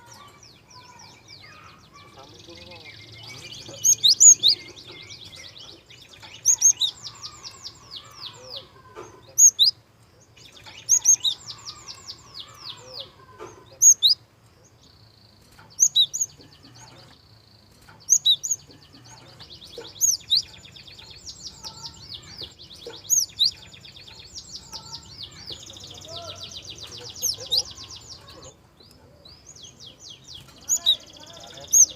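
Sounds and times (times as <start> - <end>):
songbird whistled song: 0.0 - 31.9.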